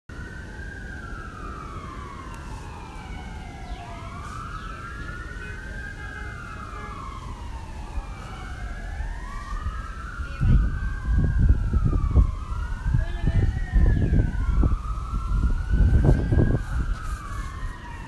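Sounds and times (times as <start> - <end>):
emergency sirens wailing: 0.1 - 18.0.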